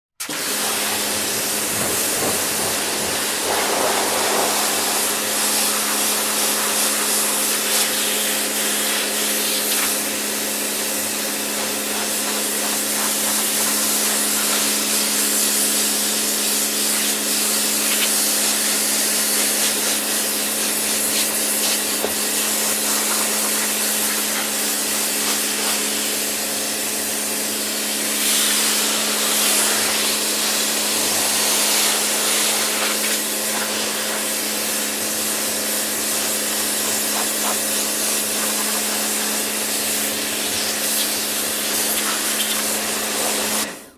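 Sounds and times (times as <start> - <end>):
pressure washer water jet hissing: 0.2 - 43.9
pump motor humming: 0.2 - 43.9.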